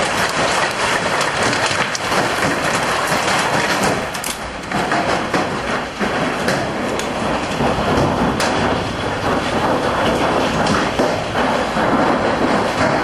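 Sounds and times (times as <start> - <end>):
hailstones pelting down: 0.0 - 13.0
heavy rain: 0.0 - 13.0.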